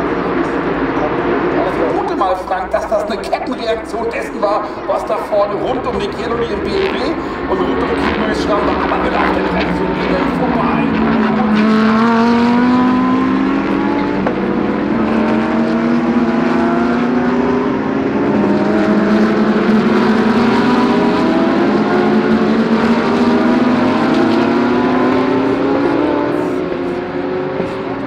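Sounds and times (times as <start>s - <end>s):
race car engines accelerating: 0.0s - 28.0s.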